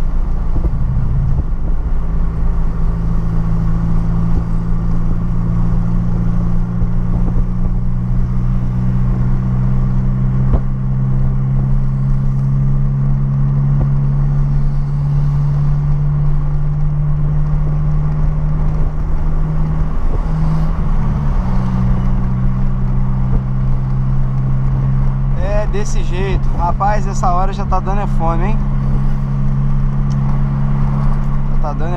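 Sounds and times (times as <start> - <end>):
car engine droning: 0.0 - 31.9.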